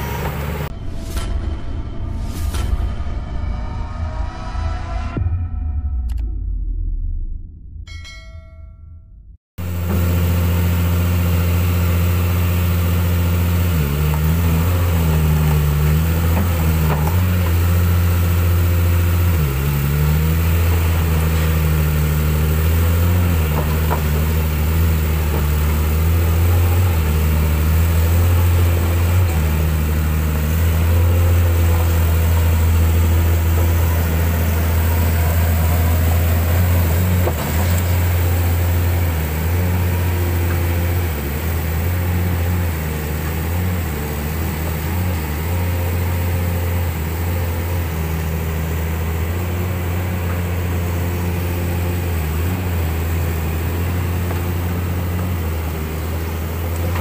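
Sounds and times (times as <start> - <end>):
excavator diesel engine running: 0.0 - 2.2, 9.6 - 57.0.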